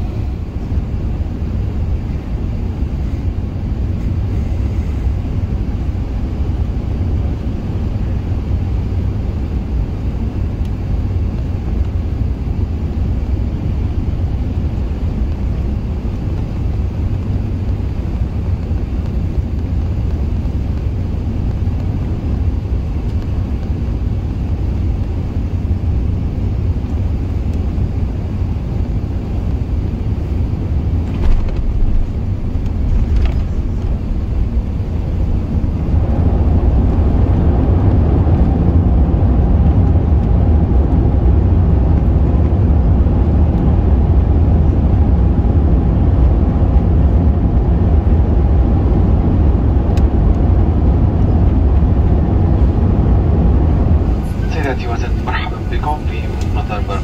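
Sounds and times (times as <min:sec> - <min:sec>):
aircraft cabin rumble: 0:00.0 - 0:57.0
jet engine noise: 0:00.0 - 0:57.0.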